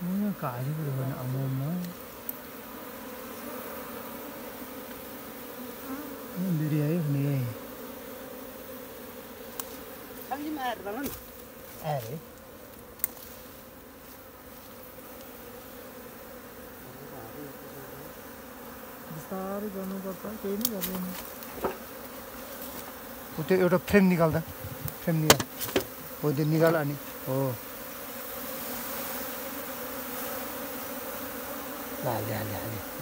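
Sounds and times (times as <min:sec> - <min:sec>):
bee colony buzzing: 0:00.0 - 0:33.0.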